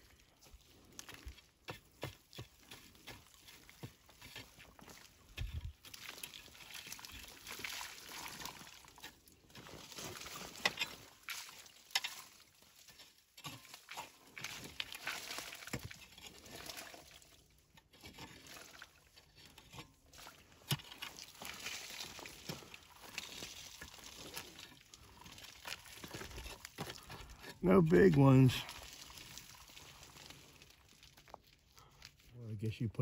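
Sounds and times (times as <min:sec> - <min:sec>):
soil and grit pattering: 0:00.0 - 0:33.0
hand cultivator scraping dirt: 0:01.2 - 0:07.4, 0:08.4 - 0:16.9, 0:17.7 - 0:30.6.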